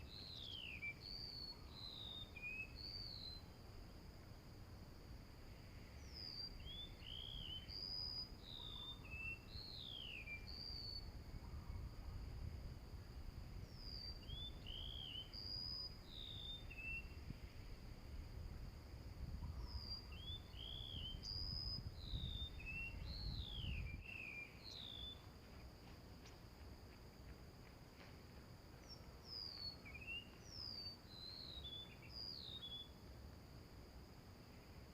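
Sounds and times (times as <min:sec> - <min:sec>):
high insect tone: 0:00.0 - 0:34.9
songbird chirping: 0:00.0 - 0:34.9.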